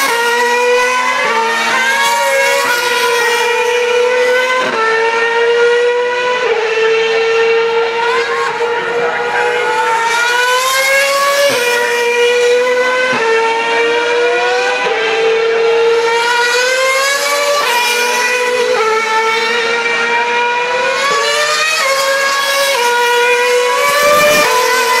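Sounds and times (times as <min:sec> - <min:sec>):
racing car engines accelerating: 0:00.0 - 0:25.0.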